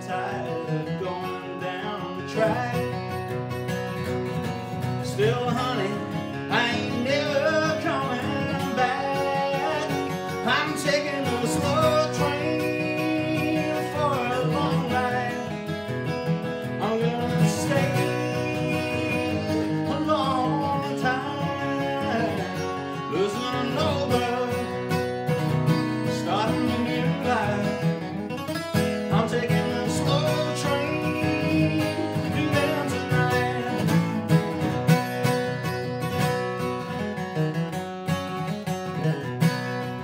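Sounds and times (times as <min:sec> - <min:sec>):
man singing: 0:00.0 - 0:03.8, 0:04.4 - 0:34.9
strummed acoustic guitar: 0:00.0 - 0:40.0.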